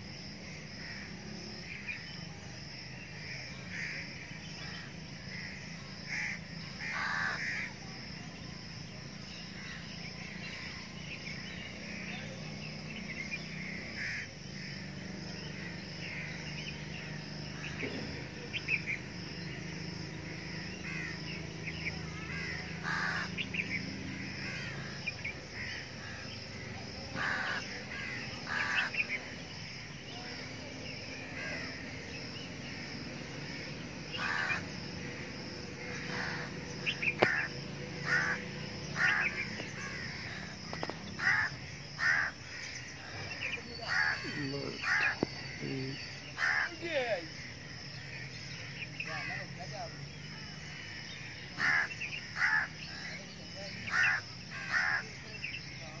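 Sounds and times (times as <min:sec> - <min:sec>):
harsh caw-like bird calls: 0:00.0 - 0:08.2, 0:09.1 - 0:56.0
birds chirping: 0:00.0 - 0:56.0
steady background hiss: 0:00.0 - 0:56.0.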